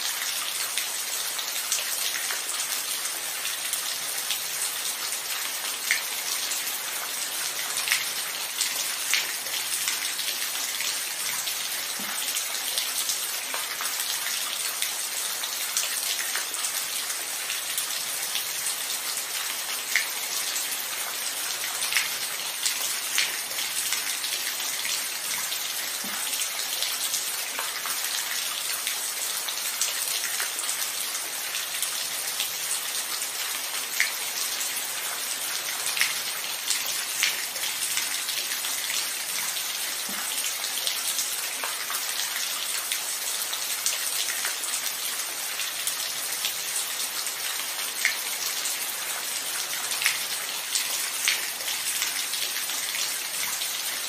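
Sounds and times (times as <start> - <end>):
steady rainfall: 0.0 - 54.0
water drips nearby: 0.0 - 54.0.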